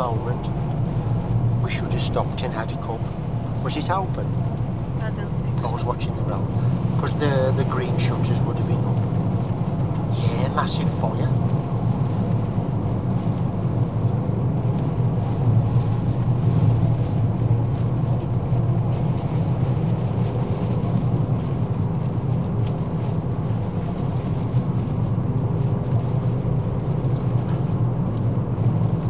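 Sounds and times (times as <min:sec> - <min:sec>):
car engine and tyre drone: 0:00.0 - 0:29.0.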